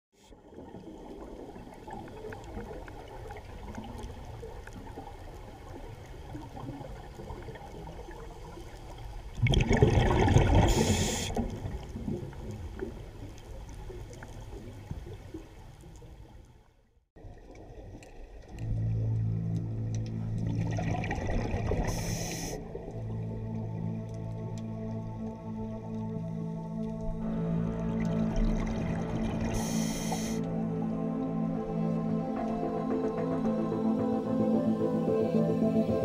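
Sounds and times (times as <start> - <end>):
water gurgling and rushing: 0.2 - 15.9, 17.2 - 34.7.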